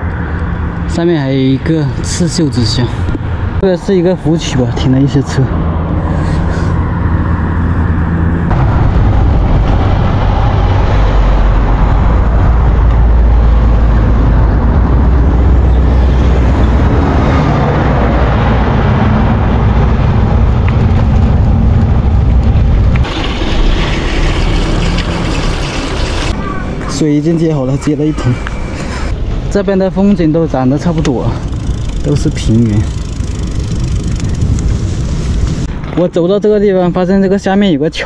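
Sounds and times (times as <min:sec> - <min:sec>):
wind buffeting microphone: 0:02.6 - 0:36.0.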